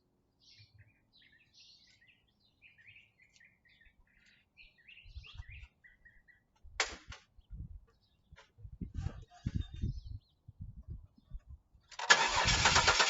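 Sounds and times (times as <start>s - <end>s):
songbirds chirping: 0.0s - 12.4s.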